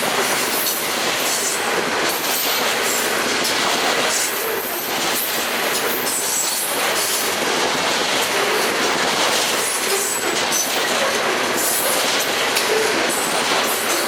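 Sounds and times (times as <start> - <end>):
freight train cars rolling: 0.0 - 14.0.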